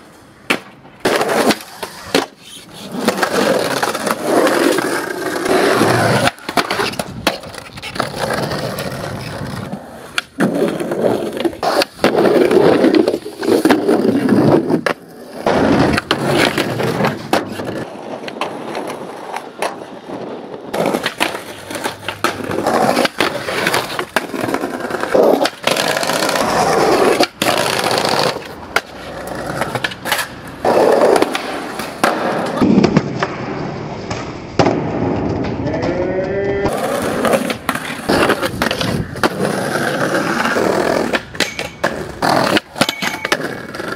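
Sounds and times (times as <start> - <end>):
skateboard cracks and landings: 0.0 - 36.0, 36.6 - 43.9
skateboard wheels rolling on pavement: 0.0 - 43.9
skateboards grinding on ledges: 0.0 - 43.9.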